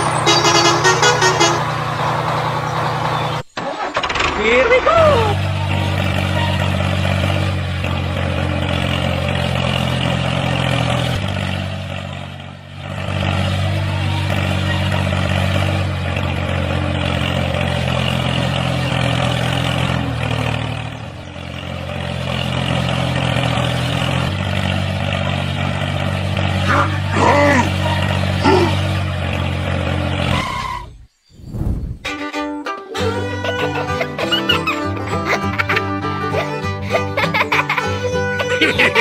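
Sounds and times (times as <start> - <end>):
tractor engine running: 0.0 - 30.9, 32.0 - 39.0.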